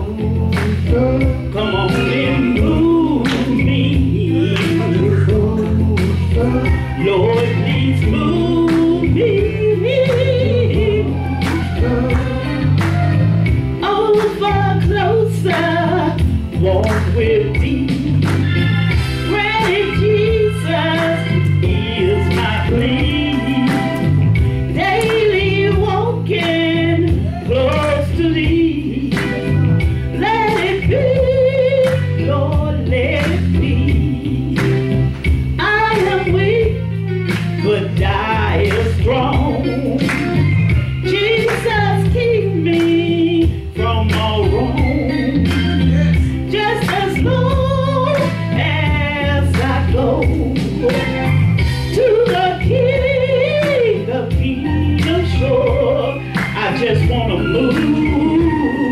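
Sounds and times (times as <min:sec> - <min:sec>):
woman and man singing: 0:00.0 - 0:12.9, 0:13.8 - 0:29.5, 0:30.1 - 0:35.0, 0:35.6 - 0:36.8, 0:37.6 - 0:40.4, 0:41.0 - 0:58.9
band with bass and drums: 0:00.0 - 0:58.9
instrumental accompaniment: 0:00.0 - 0:58.9.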